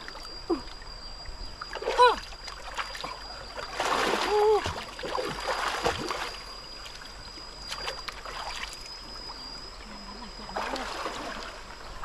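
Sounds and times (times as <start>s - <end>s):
water sloshing and splashing: 0.0s - 9.5s, 10.4s - 12.0s
stream running: 0.0s - 12.0s
thin steady high tone: 0.0s - 12.0s.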